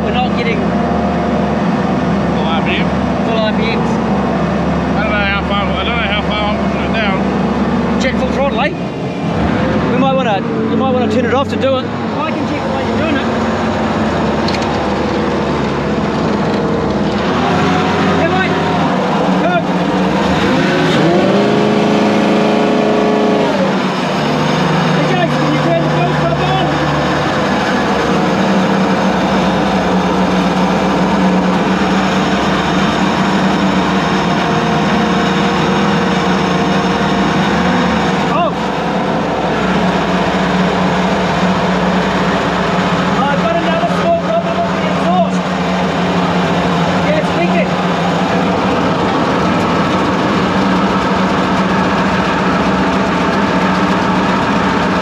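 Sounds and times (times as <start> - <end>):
boat engine running steadily: 0.0 - 55.0
leaking exhaust: 0.0 - 55.0.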